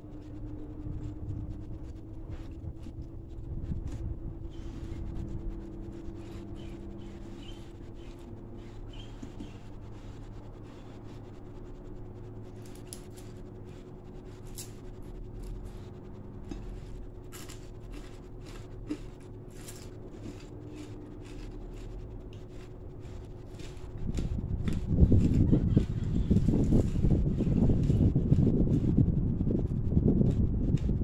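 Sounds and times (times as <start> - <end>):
close chewing of food: 0.0 - 11.5, 12.5 - 28.8
steady low hum: 0.0 - 31.0.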